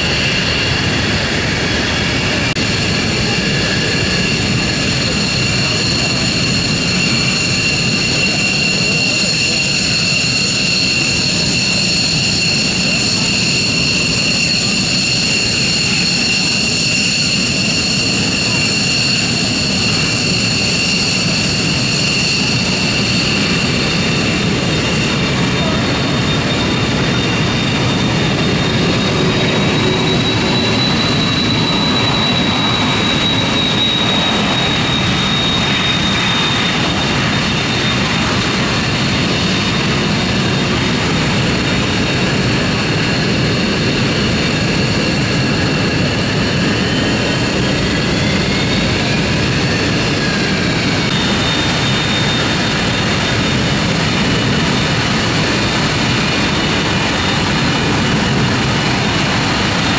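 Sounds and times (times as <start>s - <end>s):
jet engines with turbine whine: 0.0s - 59.9s.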